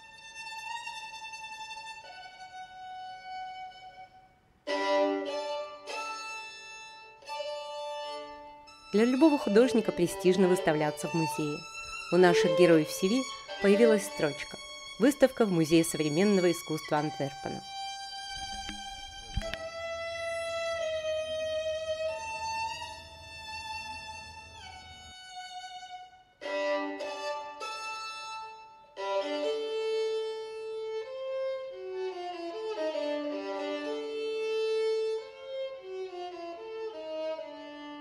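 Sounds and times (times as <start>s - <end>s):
solo violin playing slowly: 0.0s - 38.0s.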